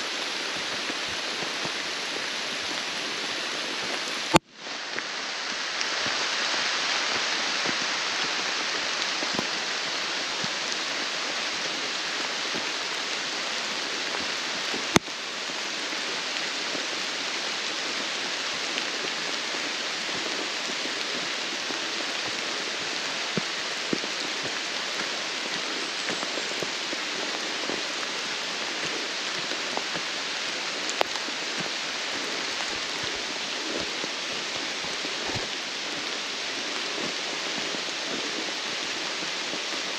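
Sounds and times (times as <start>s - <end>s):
rain on forest canopy: 0.0s - 39.9s.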